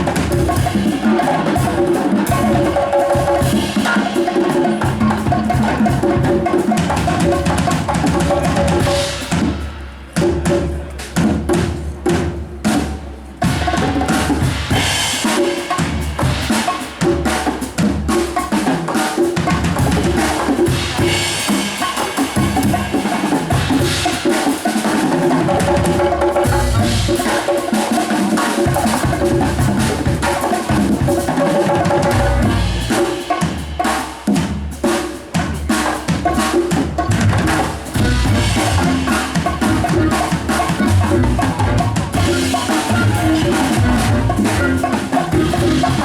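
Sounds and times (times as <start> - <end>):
live band playing: 0.0 - 46.0.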